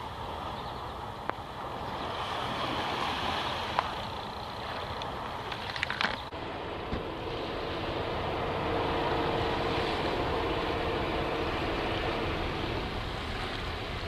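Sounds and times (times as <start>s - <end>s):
motorboat engine droning: 0.0s - 14.0s
wind and water noise: 0.0s - 14.0s.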